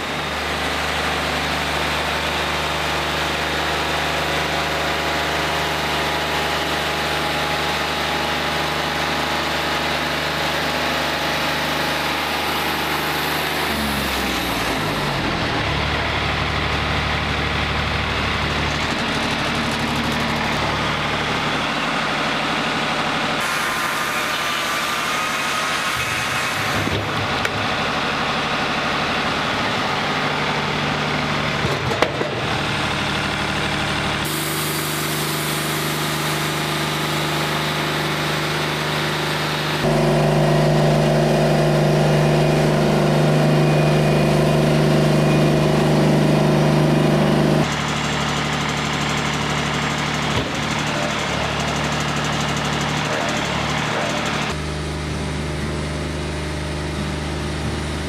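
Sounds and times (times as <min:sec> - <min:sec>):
bandsaw mill sawing log: 0:00.0 - 0:55.9.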